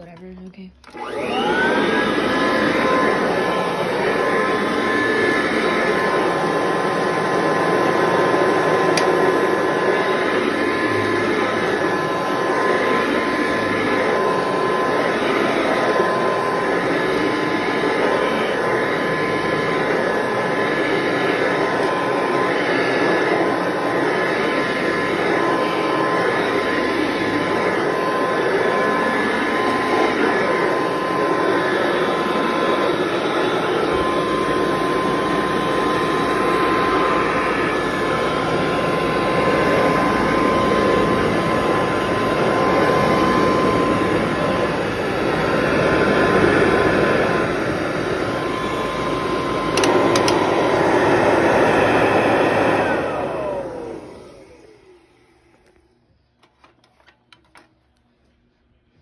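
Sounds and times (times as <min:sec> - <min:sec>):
vacuum cleaner on carpet: 0:00.0 - 0:57.7.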